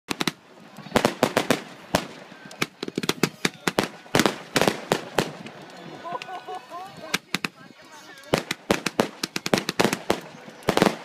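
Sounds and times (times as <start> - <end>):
fireworks bangs and crackles: 0.1 - 11.0.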